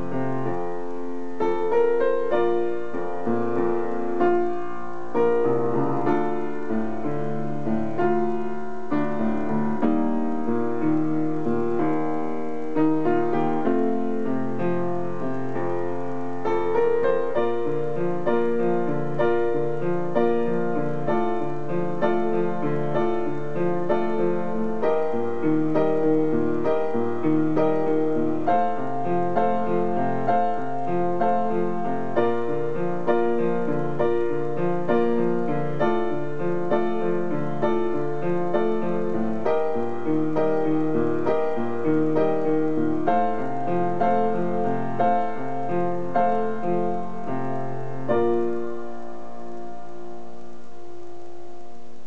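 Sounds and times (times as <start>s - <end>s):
upright piano playing: 0.0s - 52.0s.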